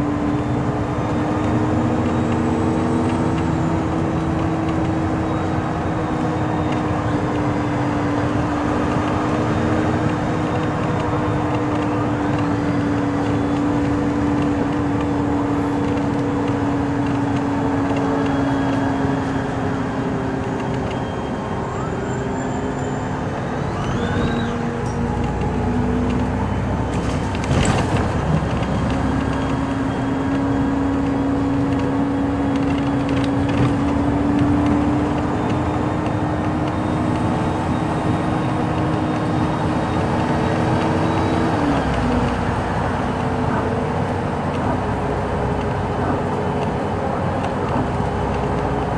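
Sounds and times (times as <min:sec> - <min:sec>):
tyre and road noise: 0:00.0 - 0:48.9.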